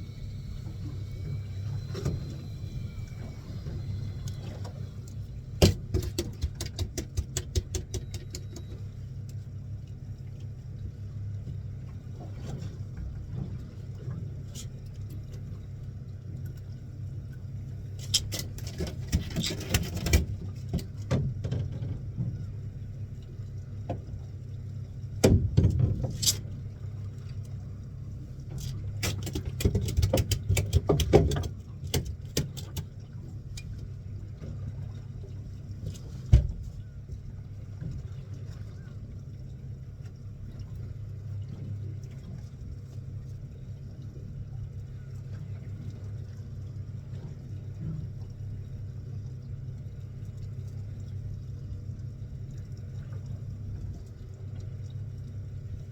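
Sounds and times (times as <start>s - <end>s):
boat engine humming: 0.0s - 55.9s.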